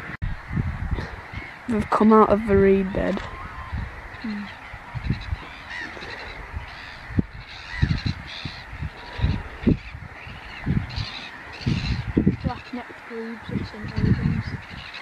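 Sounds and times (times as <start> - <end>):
waterbird calls: 0.0 - 15.0.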